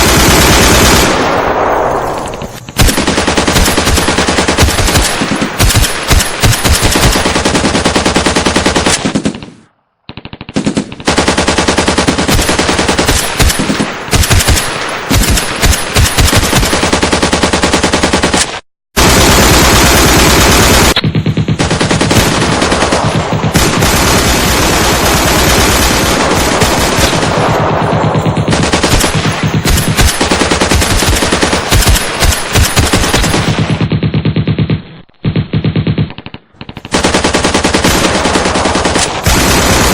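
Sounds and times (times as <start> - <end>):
automatic gunfire bursts: 0.0 - 1.4, 2.2 - 39.9.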